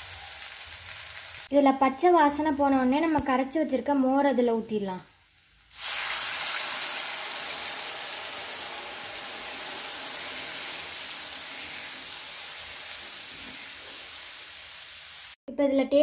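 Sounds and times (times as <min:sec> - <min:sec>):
hot oil hissing and sizzling: 0:00.0 - 0:15.4.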